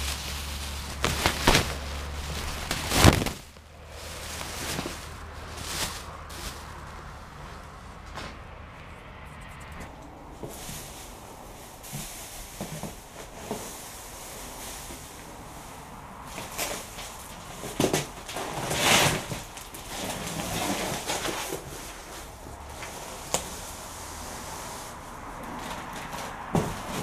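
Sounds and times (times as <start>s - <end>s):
cardboard box rustling and scraping: 0.0s - 7.6s, 10.4s - 15.1s, 16.3s - 27.0s.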